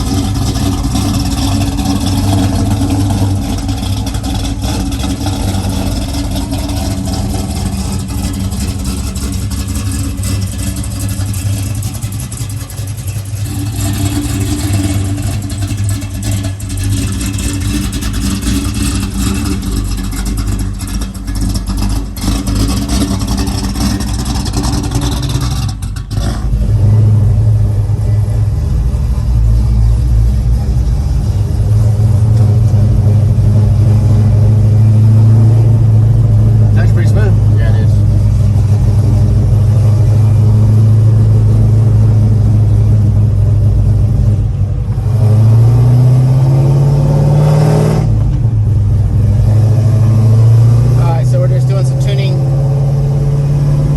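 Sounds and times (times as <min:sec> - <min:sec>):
car engine running: 0:00.0 - 0:53.9.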